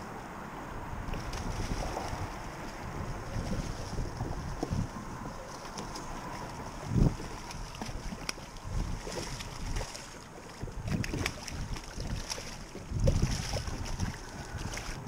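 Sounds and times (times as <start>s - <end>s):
wind buffeting microphone: 0.0s - 15.0s
water slapping boat hull: 0.8s - 15.0s
fish splashing: 1.0s - 15.0s.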